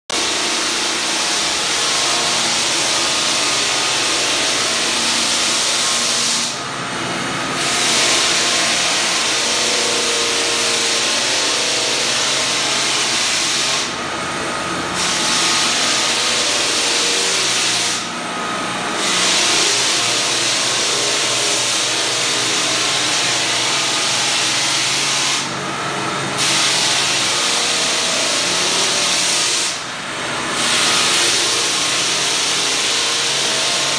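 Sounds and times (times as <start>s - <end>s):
floor sander grinding: 0.1s - 33.9s.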